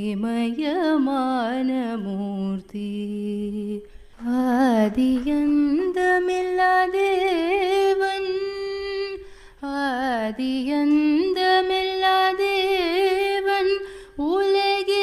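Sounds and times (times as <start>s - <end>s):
woman singing devotional song: 0.0s - 15.0s.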